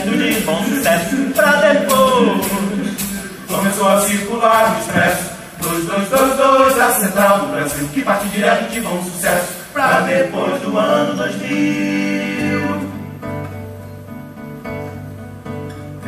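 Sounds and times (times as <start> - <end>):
men singing together: 0.0 - 13.2.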